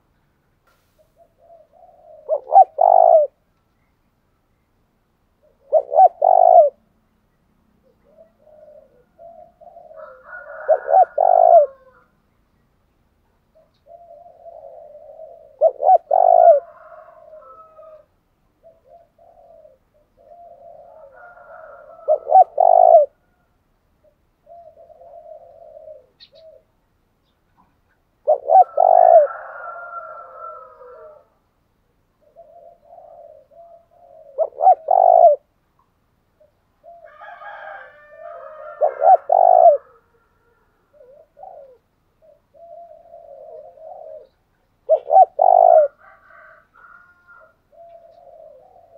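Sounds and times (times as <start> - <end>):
dove cooing: 1.0 - 3.4, 5.4 - 6.9, 7.8 - 12.1, 13.5 - 26.8, 27.6 - 31.4, 32.2 - 35.6, 36.4 - 48.9.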